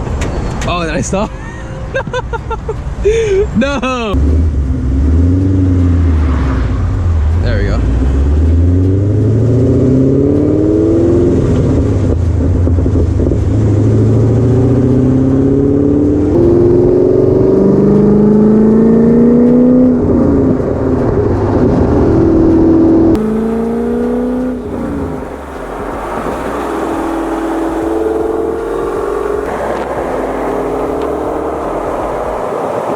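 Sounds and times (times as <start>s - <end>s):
car engine accelerating hard: 4.1s - 32.9s.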